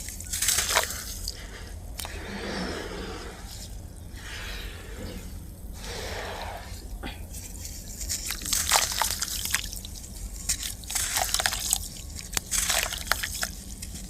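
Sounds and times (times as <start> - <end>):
sand clumps crunching: 0.0 - 14.0
steady low hum: 0.0 - 14.0
wet crumbling sand in water: 0.0 - 14.0.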